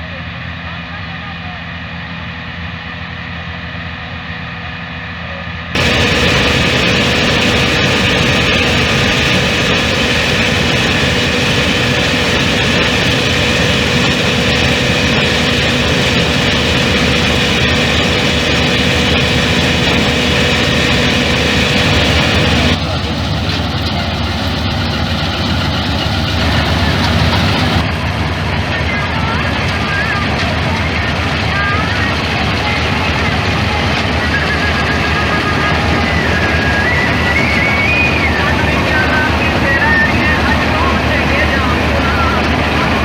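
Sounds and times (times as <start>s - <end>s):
combine harvester running: 0.1s - 43.0s.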